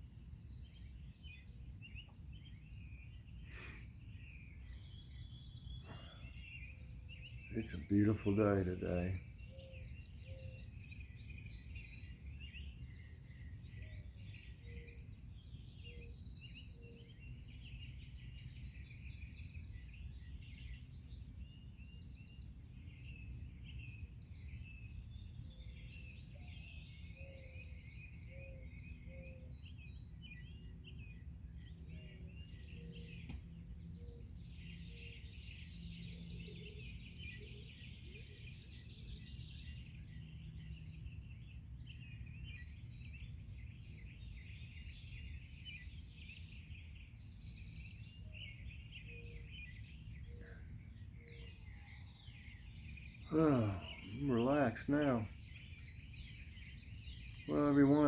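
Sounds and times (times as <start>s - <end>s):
birds singing and chirping: 0.0s - 58.0s
lower bird call: 0.0s - 58.0s.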